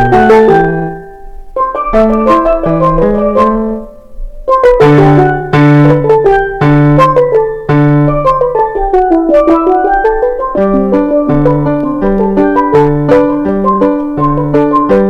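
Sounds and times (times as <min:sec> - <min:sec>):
bass notes: 0:00.0 - 0:15.0
steelpan melody: 0:00.0 - 0:15.0.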